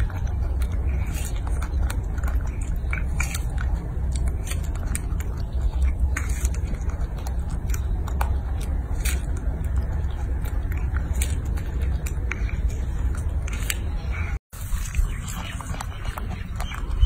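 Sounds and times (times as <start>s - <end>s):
monkey chewing wet smacks: 0.0s - 17.0s
steady low rumble: 0.0s - 17.0s.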